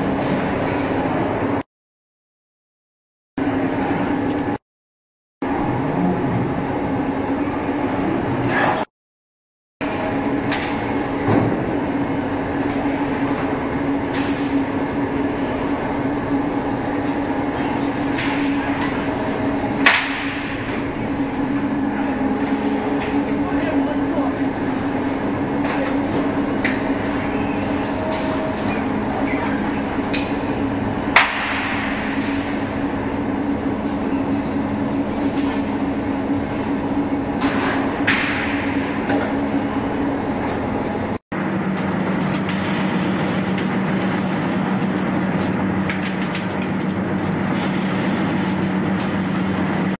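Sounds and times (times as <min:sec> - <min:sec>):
rubber mill mechanical hum: 0:00.0 - 0:01.6, 0:03.4 - 0:04.6, 0:05.4 - 0:08.9, 0:09.8 - 0:50.0.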